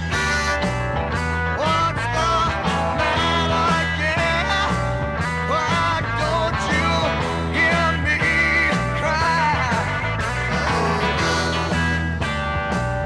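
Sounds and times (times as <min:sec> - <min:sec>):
rock song from vinyl record: 0:00.0 - 0:13.0.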